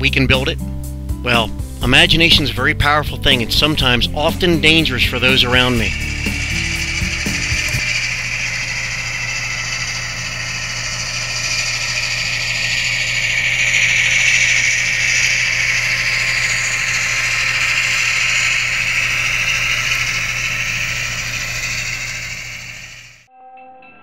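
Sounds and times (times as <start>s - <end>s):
low hum: 1.2s - 23.3s
model train motors whirring: 3.6s - 23.2s.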